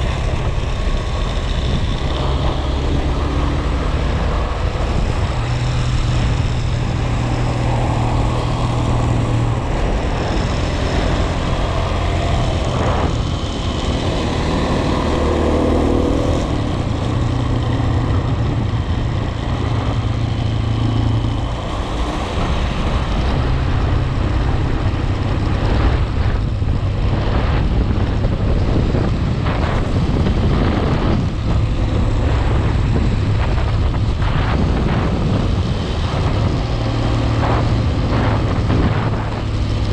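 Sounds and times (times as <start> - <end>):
road and wind noise: 0.0 - 39.9
vehicle engine hum: 0.0 - 39.9.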